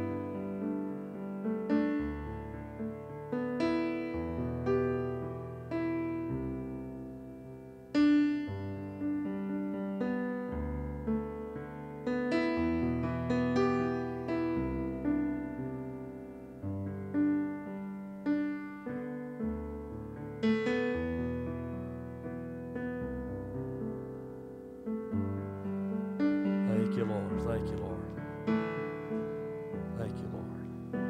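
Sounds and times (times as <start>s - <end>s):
piano chords: 0.0s - 31.0s.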